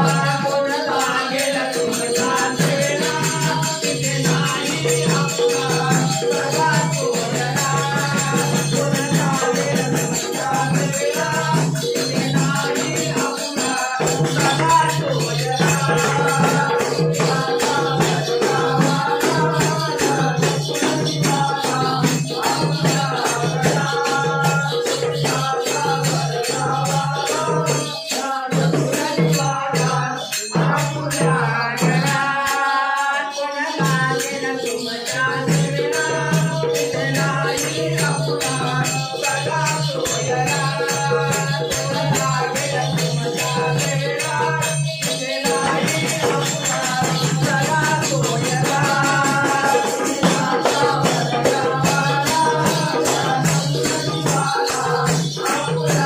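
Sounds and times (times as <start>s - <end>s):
barrel drum beat: 0.0s - 32.2s, 35.1s - 56.0s
high jingle: 0.0s - 56.0s
men singing together: 0.0s - 56.0s.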